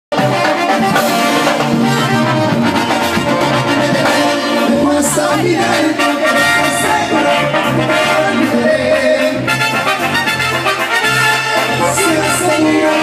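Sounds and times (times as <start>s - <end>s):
live latin band with keyboard: 0.1s - 13.0s.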